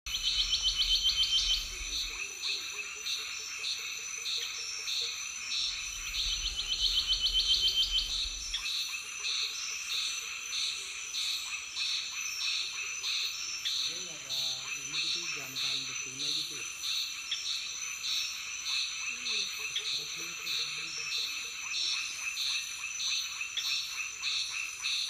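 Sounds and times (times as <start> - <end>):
high insect drone: 0.1 - 25.0.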